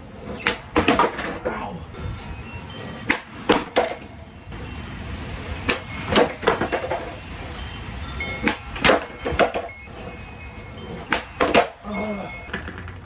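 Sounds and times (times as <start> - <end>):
skateboard clacking on ground: 0.0 - 13.0.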